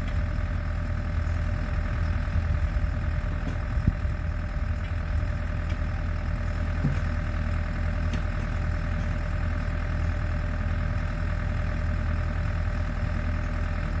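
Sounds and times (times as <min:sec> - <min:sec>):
portable generator engine running: 0:00.0 - 0:14.0.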